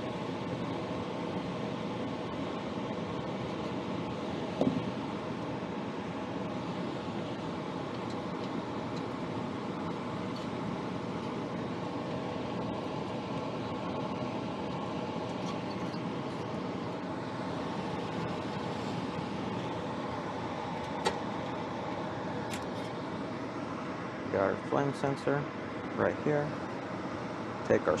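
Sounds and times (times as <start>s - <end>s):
hvac fan humming: 0.0s - 28.0s.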